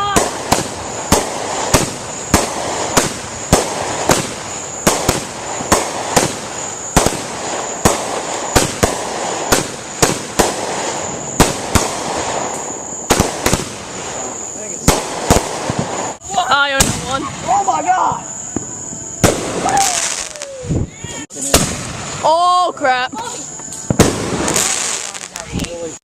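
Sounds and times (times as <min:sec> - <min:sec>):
crackling hiss: 0:00.0 - 0:26.0
fireworks bangs: 0:00.0 - 0:26.0.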